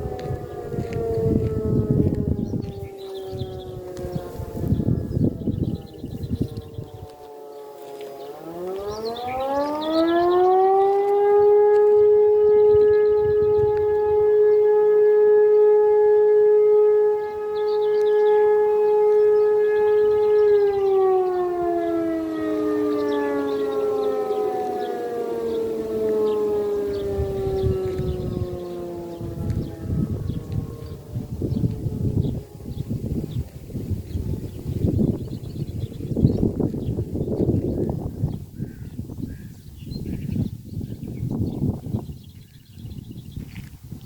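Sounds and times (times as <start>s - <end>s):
second siren falling tone: 0.0s - 38.4s
motor siren howling: 0.0s - 44.0s.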